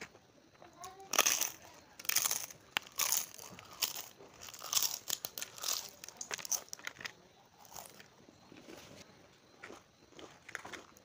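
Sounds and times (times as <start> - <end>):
crunchy food chewing: 0.6 - 11.0.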